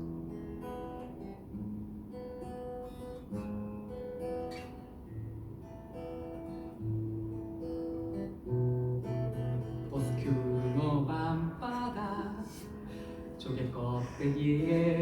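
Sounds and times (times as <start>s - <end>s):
acoustic guitar plucked notes: 0.0s - 15.0s
guitar strums: 0.0s - 15.0s.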